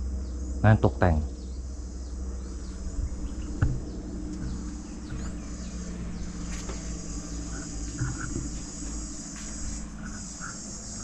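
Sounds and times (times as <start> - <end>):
insects chirring: 0.0 - 11.0
low steady hum: 0.0 - 11.0.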